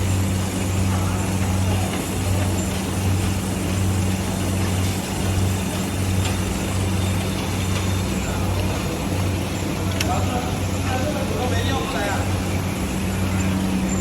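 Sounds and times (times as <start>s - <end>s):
low machine hum: 0.0s - 14.0s
mechanical noise: 0.0s - 14.0s.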